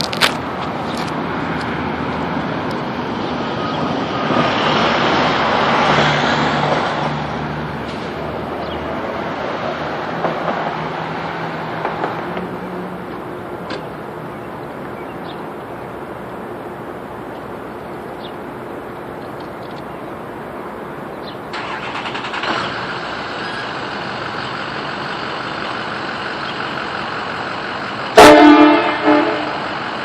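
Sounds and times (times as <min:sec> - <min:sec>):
vehicle passing: 0:00.0 - 0:25.9.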